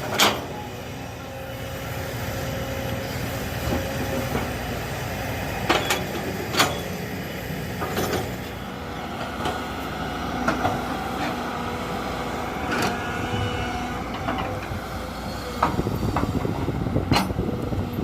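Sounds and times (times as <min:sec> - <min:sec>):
diesel engines running: 0:00.0 - 0:18.0.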